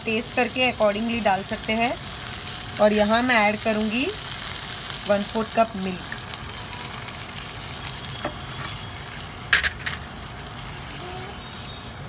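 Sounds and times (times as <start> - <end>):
sauce sizzling in frying pan: 0.0 - 11.9.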